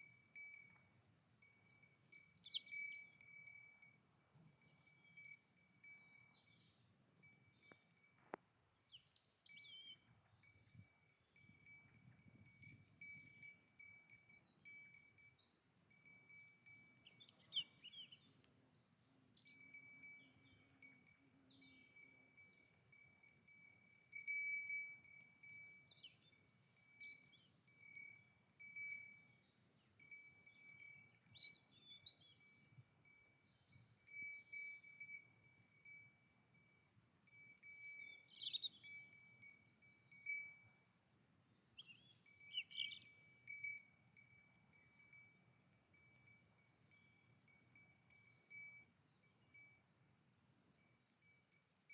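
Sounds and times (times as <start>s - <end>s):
cow bell ringing: 0.0s - 18.4s, 19.3s - 51.9s.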